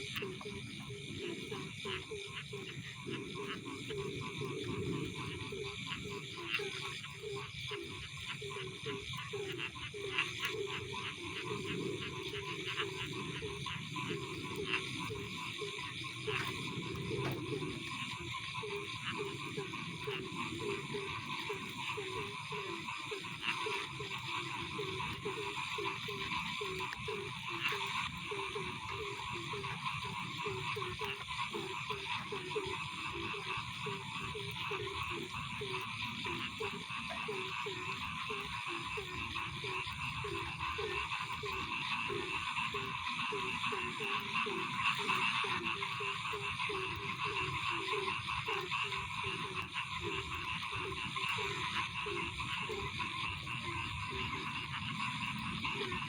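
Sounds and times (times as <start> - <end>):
frogs croaking: 0.0 - 56.0
high-pitched frog chorus: 0.0 - 56.0.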